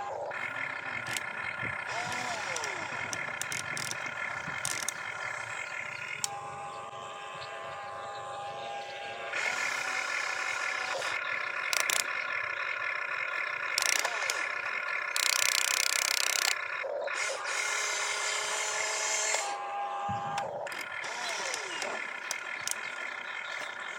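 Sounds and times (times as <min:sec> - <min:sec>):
harsh motor noise bursts: 0:00.0 - 0:23.9
toy electric motors whining: 0:00.0 - 0:23.9.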